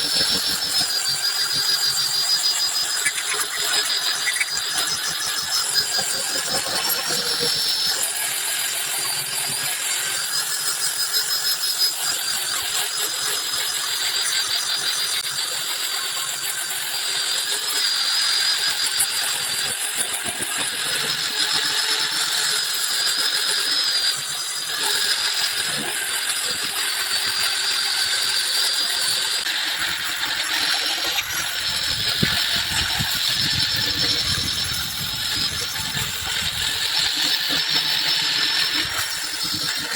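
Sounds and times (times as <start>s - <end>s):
power tool whining on wood: 0.0s - 39.9s.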